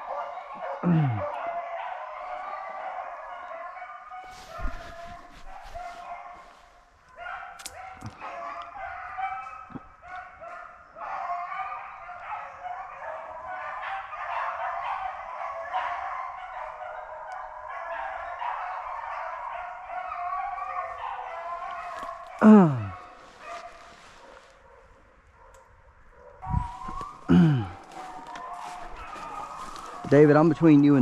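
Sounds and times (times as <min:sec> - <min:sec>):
dogs baying: 0:00.0 - 0:31.0.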